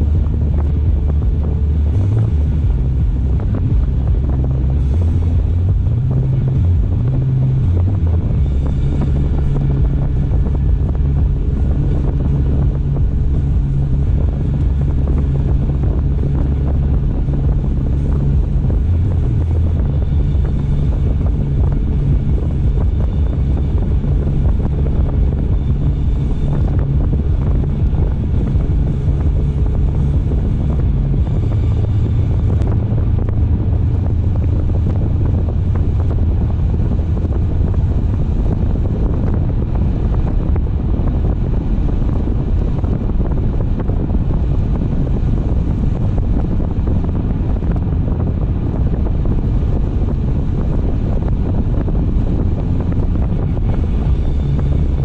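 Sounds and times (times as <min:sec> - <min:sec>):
car engine and tyre rumble: 0:00.0 - 0:55.0
wind noise: 0:00.0 - 0:55.0.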